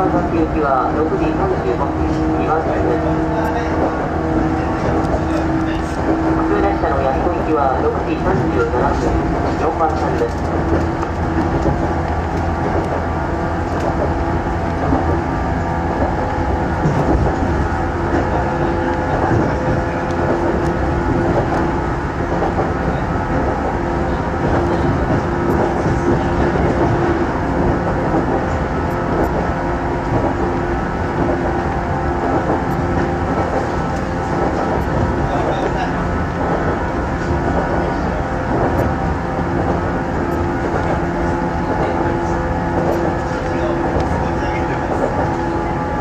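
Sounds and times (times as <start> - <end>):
constant hum: 0.0 - 46.0
train rolling noise: 0.0 - 46.0.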